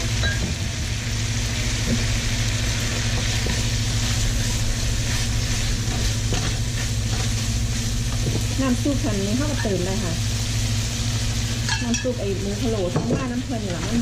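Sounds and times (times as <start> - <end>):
low mechanical hum: 0.0 - 14.0
meat sizzling in a pan: 0.0 - 14.0.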